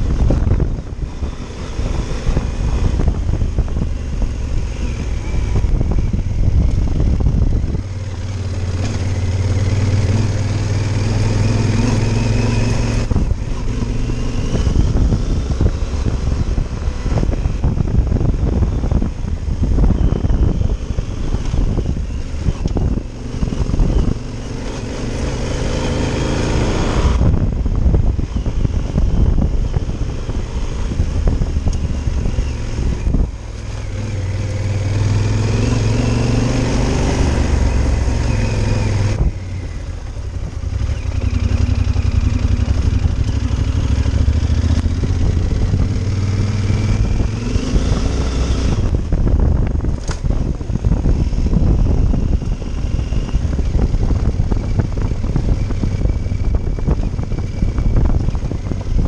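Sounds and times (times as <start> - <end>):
motorcycle engine revving: 0.0 - 59.0
rough road noise: 0.0 - 59.0
wind noise: 0.0 - 59.0.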